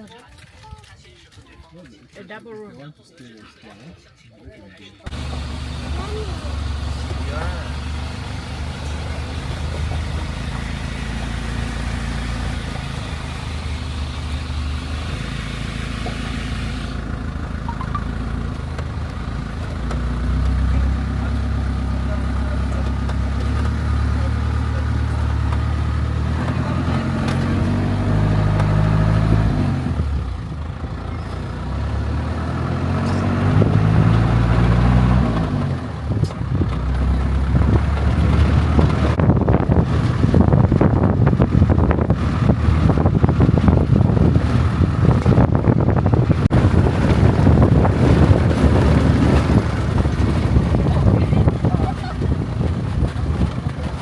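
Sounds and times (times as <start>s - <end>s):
rough rumble with knocks: 5.1s - 54.0s
vehicle engine driving: 5.1s - 54.0s.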